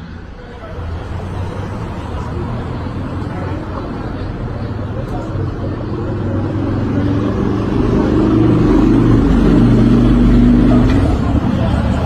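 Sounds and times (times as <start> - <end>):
engine running steadily: 0.4 - 12.0.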